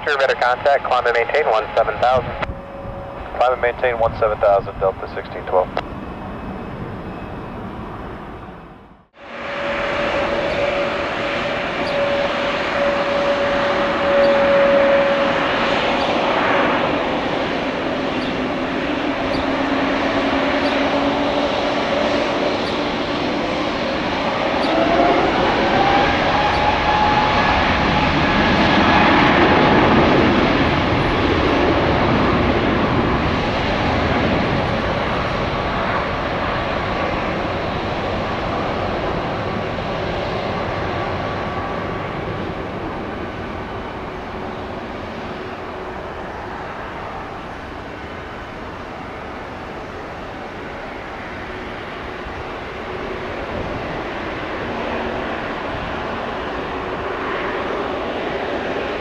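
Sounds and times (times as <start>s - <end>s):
jet engines roaring at takeoff: 0.0s - 59.0s.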